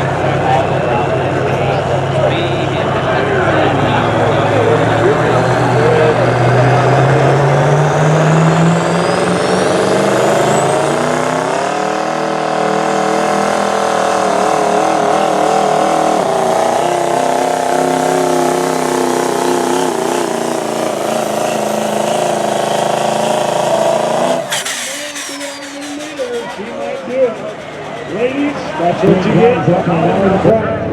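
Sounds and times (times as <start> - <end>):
diesel engine at full throttle: 0.0 - 30.9.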